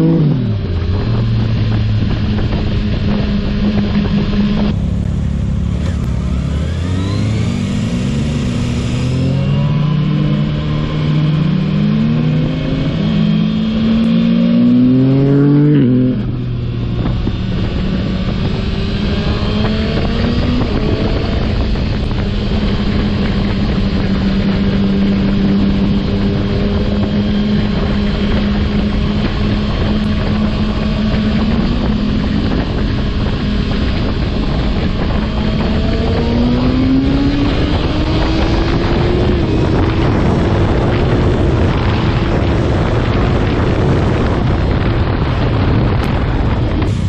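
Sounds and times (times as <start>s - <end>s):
motorcycle engine revving: 0.0s - 47.0s
wind rushing: 0.0s - 47.0s.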